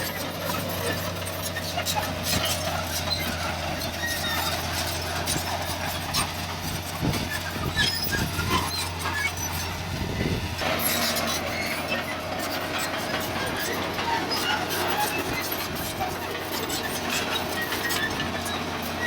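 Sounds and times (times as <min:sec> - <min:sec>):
diesel earth-moving machine running: 0:00.0 - 0:19.0.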